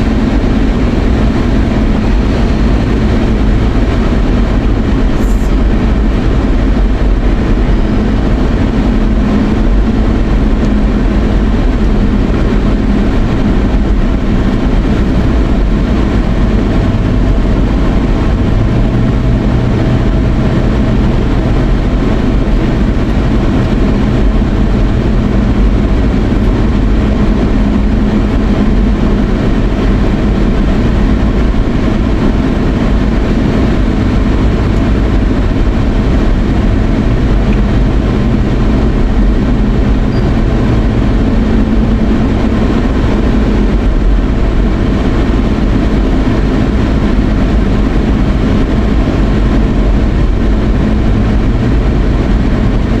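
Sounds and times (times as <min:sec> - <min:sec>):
low hum: 0:00.0 - 0:53.0
road and engine noise in car: 0:00.0 - 0:53.0.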